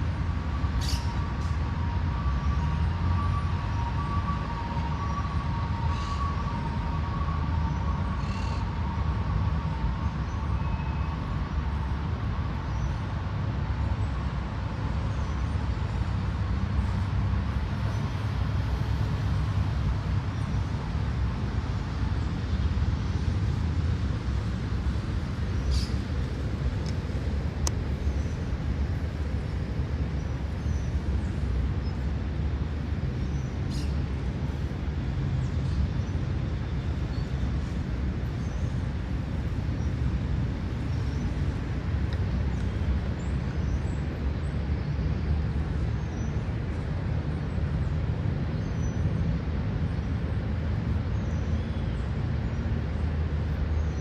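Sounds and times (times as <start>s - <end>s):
low road traffic rumble: 0.0s - 54.0s.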